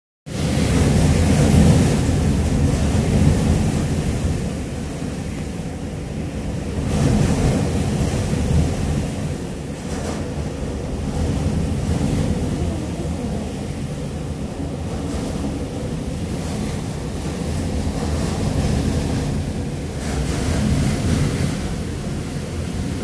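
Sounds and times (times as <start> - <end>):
wind buffeting microphone: 0.3 - 23.0
driving rain: 0.5 - 23.0.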